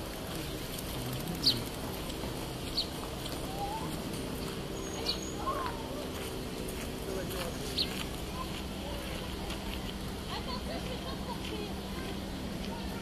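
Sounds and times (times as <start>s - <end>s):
small birds chirping: 0.0s - 13.0s
steady background noise: 0.0s - 13.0s.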